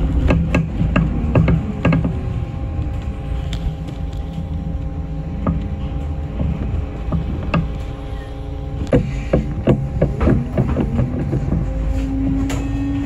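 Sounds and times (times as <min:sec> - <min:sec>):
bus engine rumble: 0:00.0 - 0:13.0
faint whine: 0:00.0 - 0:13.0
rattles and knocks: 0:00.0 - 0:13.0.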